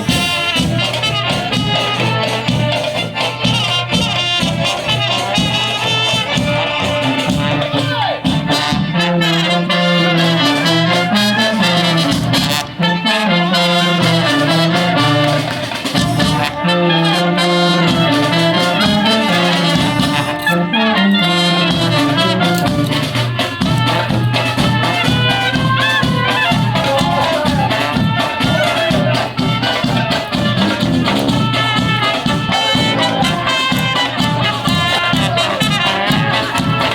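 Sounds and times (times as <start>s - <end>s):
brass band playing: 0.0s - 36.9s
drum beat: 0.0s - 36.9s.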